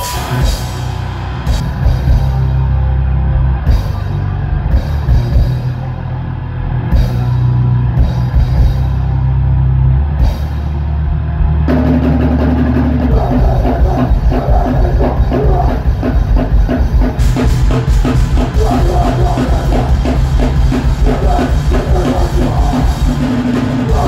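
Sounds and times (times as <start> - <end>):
metal band playing: 0.0 - 24.0.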